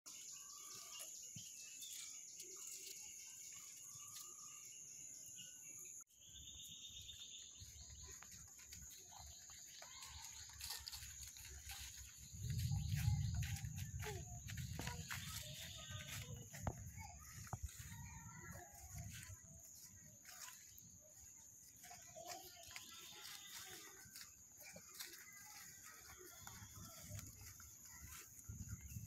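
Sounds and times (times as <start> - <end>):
bird calls and chirps: 0.1 - 29.0.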